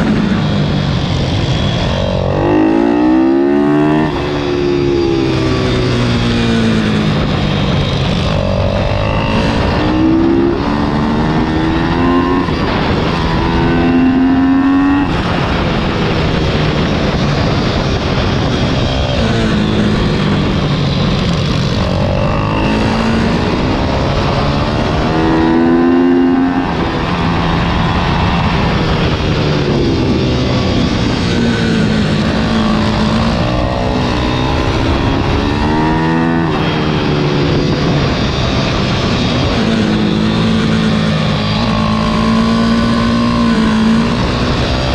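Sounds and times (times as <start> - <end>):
motorbike engine revving: 0.0 - 44.9
wind noise: 0.0 - 44.9.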